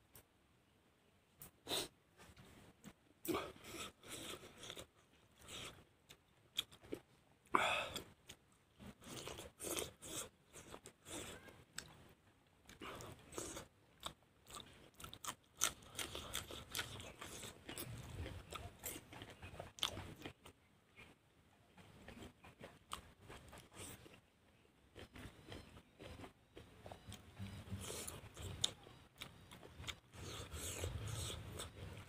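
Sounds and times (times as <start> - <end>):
person chewing and crunching food: 1.7 - 32.0.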